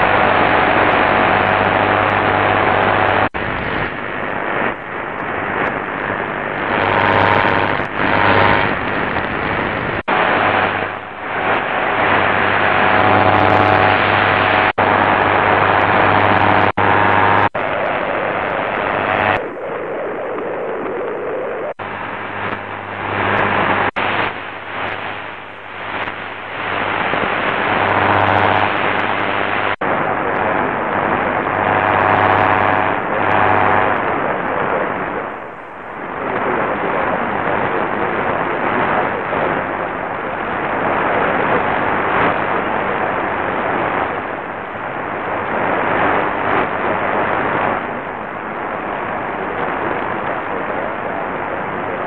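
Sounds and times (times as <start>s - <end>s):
radio stations in static: 0.0s - 52.0s.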